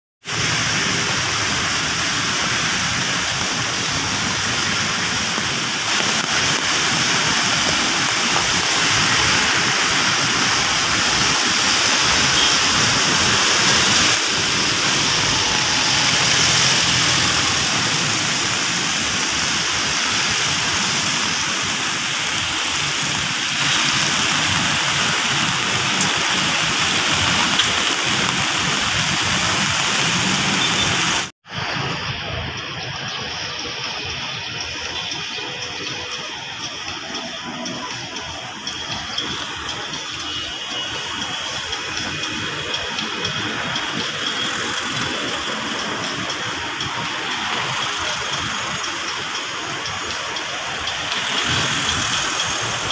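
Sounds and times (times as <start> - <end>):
falling rain: 0.2 - 52.9
tyres swishing on wet road: 0.2 - 52.9.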